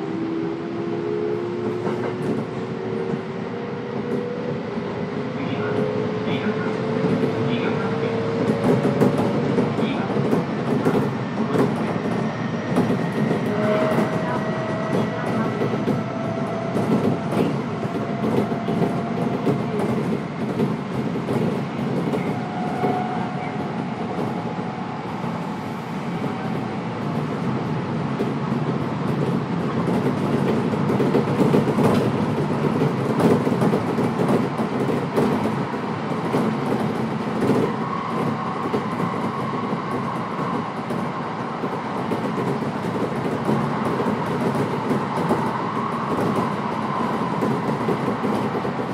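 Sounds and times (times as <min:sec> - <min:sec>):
train wheels rumbling on rail: 0:00.0 - 0:48.9
rail joint clicks: 0:05.6 - 0:24.6, 0:26.2 - 0:48.9.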